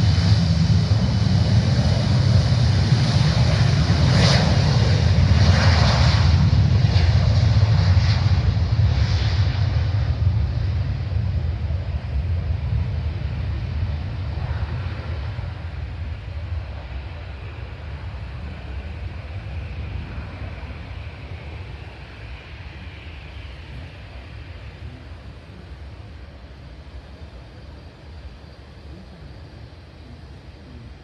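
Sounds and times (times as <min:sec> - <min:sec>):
faint jet whine: 0:00.0 - 0:31.0
jet engines rumbling: 0:00.0 - 0:31.0.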